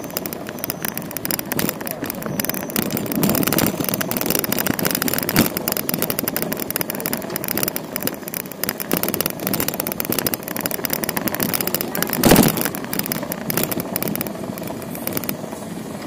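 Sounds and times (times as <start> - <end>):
bicycle clicks and rattles: 0.0 - 16.0
car traffic rumble: 0.0 - 16.0.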